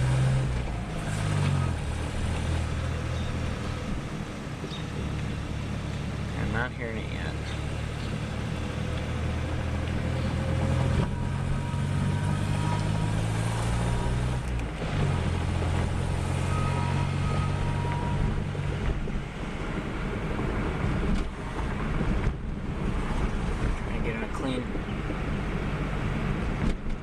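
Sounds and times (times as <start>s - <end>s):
car engine low note: 0.0s - 27.0s
road noise: 0.0s - 27.0s.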